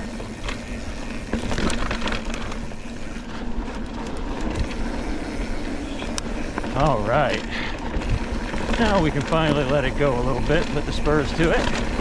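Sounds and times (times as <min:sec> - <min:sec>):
bike clicks and rattles: 0:00.0 - 0:12.0
bike tyres rolling on dirt: 0:00.0 - 0:12.0.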